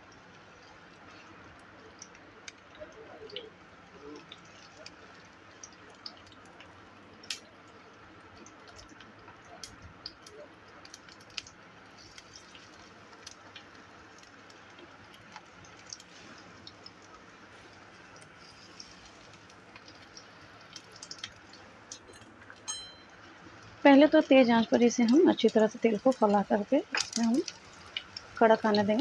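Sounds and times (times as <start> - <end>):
oil popping and crackling: 0.0 - 29.0
oil sizzling in pan: 4.0 - 29.0.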